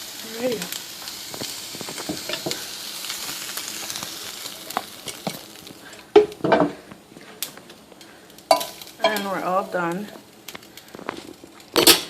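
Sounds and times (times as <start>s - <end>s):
chicken sizzling: 0.0s - 12.0s.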